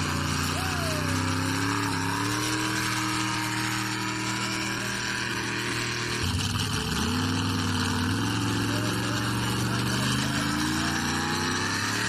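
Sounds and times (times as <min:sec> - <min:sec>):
tractor engine running hard: 0:00.0 - 0:12.0.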